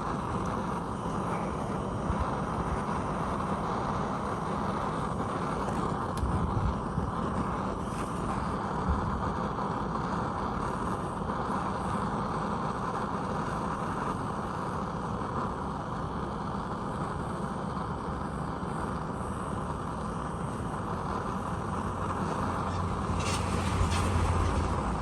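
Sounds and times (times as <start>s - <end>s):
steady machine noise: 0.0s - 25.0s.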